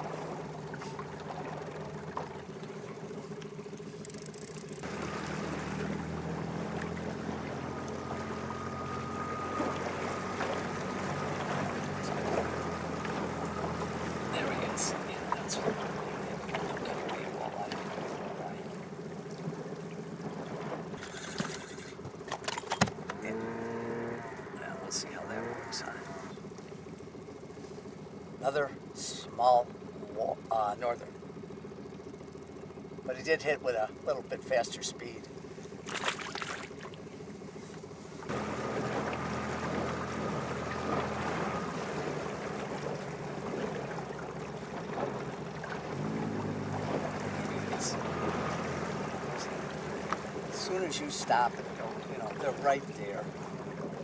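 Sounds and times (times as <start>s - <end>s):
outboard motor running slowly: 0.0s - 54.0s
water rushing along boat: 0.0s - 54.0s.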